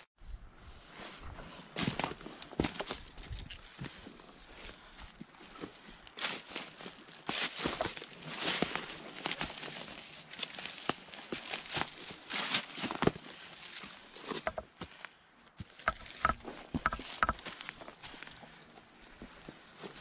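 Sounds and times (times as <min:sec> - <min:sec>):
branches rustling against body: 0:01.2 - 0:20.0
footsteps crunching through dry leaves: 0:01.8 - 0:20.0.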